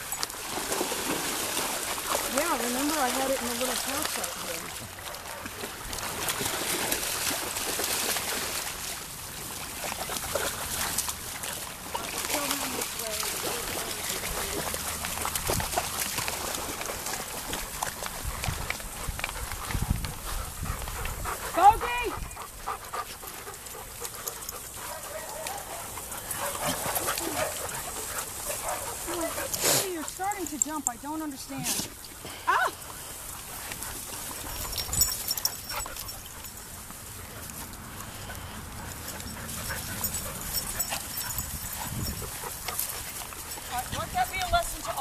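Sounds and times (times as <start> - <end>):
dogs splashing through water: 0.0 - 45.0.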